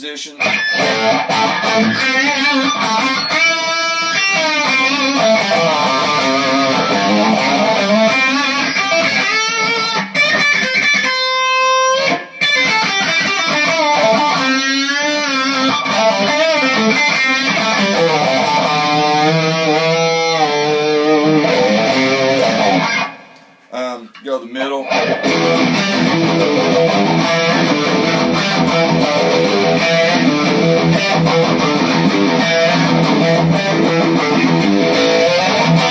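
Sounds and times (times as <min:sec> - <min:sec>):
overdriven electric guitar: 0:00.3 - 0:23.6, 0:24.8 - 0:35.9.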